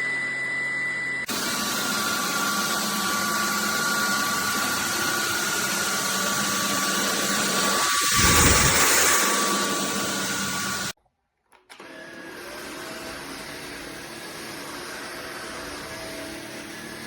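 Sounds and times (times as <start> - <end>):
stick vacuum whining: 1.2 - 11.0, 11.6 - 17.0.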